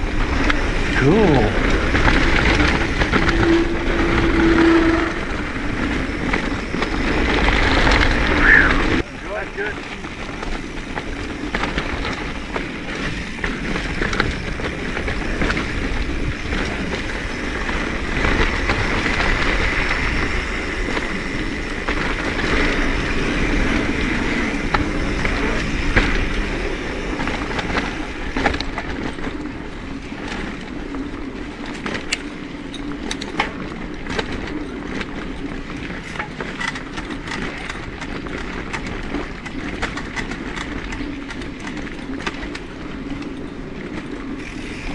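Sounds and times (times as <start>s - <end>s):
bike rattling and clicking: 0.0s - 44.9s
bike tyres rolling on gravel: 0.0s - 44.9s
wind rumbling on microphone: 0.0s - 44.9s.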